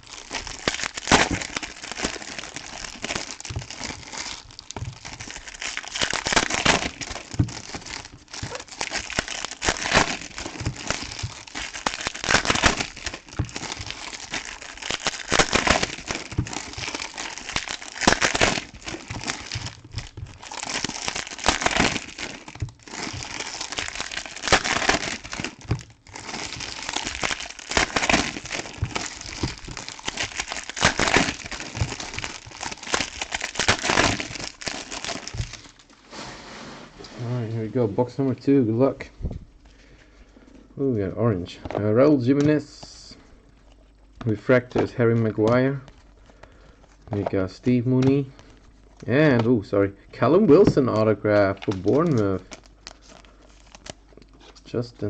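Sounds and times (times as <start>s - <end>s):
foil wrappers crinkling: 0.0s - 36.1s, 41.4s - 55.0s.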